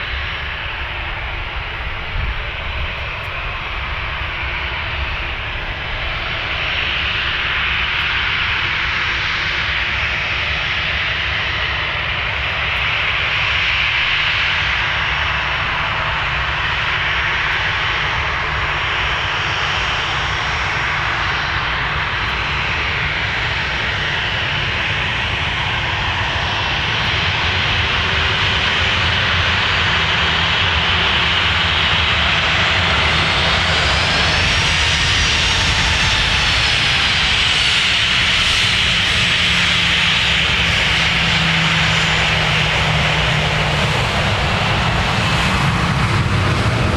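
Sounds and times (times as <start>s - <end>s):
airliner engines running: 0.0s - 46.9s
high engine whine: 0.0s - 46.9s.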